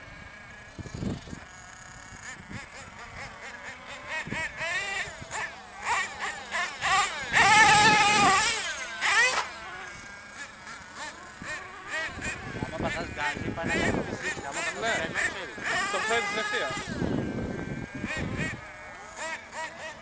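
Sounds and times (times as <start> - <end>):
rc truck engine revving: 0.0 - 20.0.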